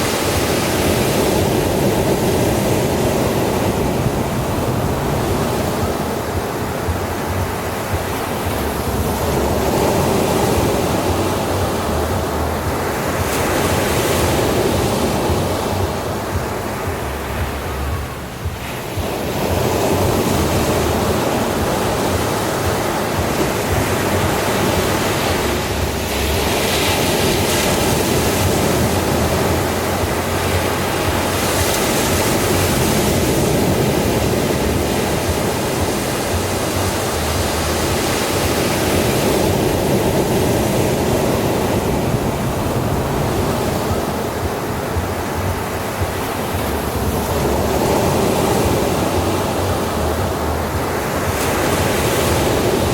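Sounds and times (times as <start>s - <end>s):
ocean surf on beach: 0.0s - 52.9s.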